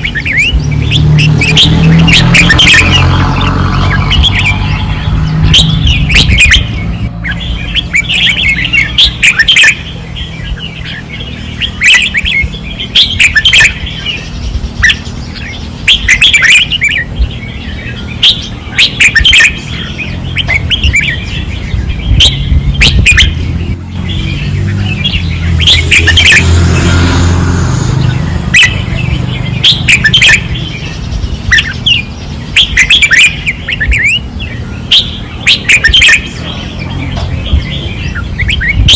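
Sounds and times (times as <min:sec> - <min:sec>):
birds singing warbled phrases: 0:00.0 - 0:38.9.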